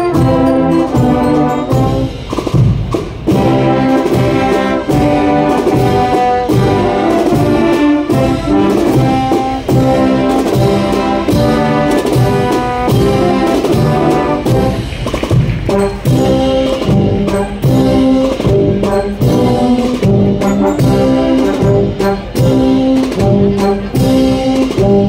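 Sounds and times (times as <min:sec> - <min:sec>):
brass chords: 0:00.0 - 0:25.0
drum strokes: 0:00.0 - 0:25.0.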